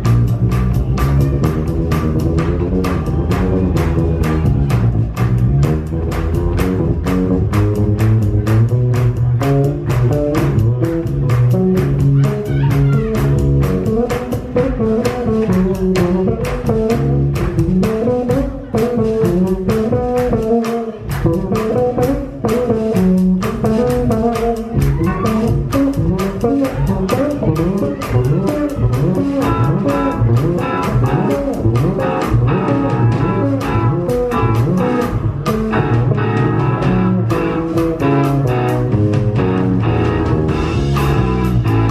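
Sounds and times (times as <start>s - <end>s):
bass guitar: 0.0s - 41.9s
drums keeping a steady beat: 0.0s - 41.9s
electric guitar: 0.0s - 41.9s.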